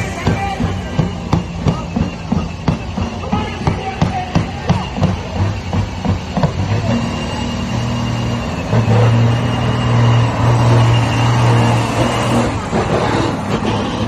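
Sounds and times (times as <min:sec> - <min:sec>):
truck engine running at high revs: 0:00.0 - 0:14.0.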